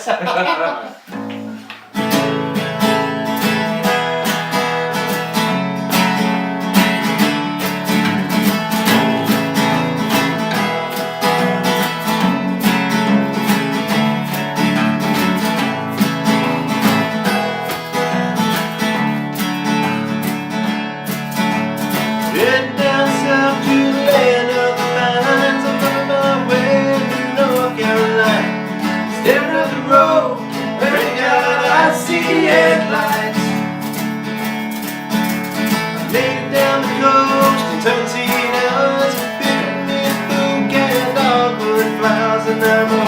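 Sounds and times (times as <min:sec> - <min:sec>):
acoustic guitars strumming: 0:00.0 - 0:43.0.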